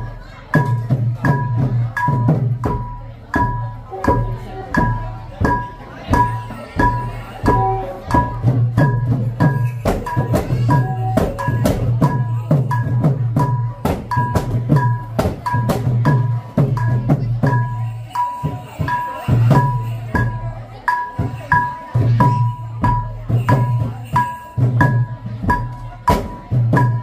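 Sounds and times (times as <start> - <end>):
drums and metal percussion: 0.0 - 27.0.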